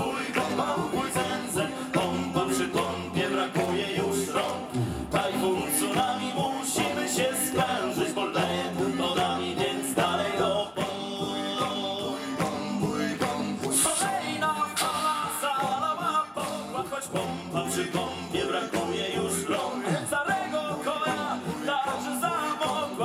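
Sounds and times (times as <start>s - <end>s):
men singing in harmony: 0.0s - 23.0s.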